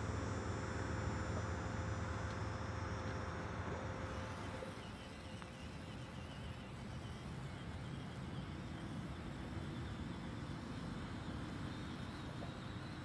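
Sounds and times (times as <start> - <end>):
outdoor ambience: 0.0 - 13.0
small electric motor whining: 0.0 - 13.0.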